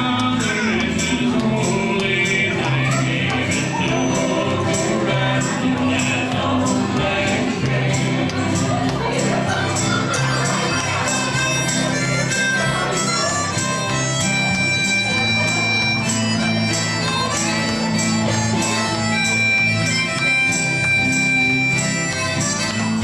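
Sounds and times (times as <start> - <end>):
harmonica melody: 0.0 - 23.0
strummed acoustic guitars: 0.0 - 23.0.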